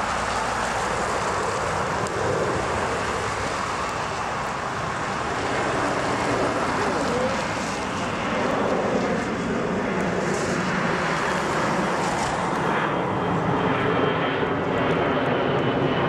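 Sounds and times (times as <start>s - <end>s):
jet engine noise: 0.0s - 16.0s.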